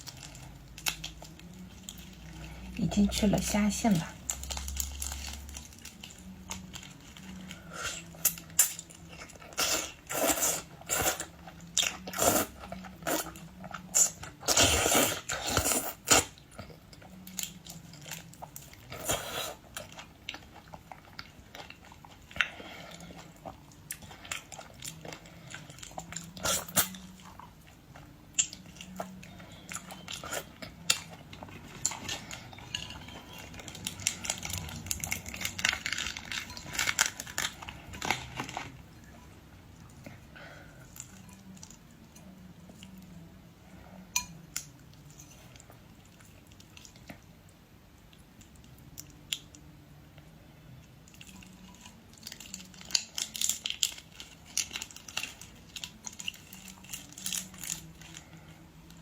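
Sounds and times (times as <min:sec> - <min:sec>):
crunching and chewing: 0:00.0 - 0:02.8, 0:04.2 - 0:43.2, 0:44.6 - 0:49.7, 0:50.8 - 0:59.0.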